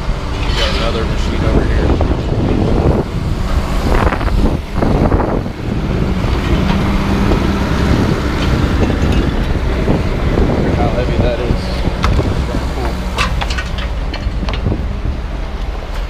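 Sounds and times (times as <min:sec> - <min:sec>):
large diesel engine running: 0:00.0 - 0:16.0
wind buffeting microphone: 0:00.0 - 0:16.0.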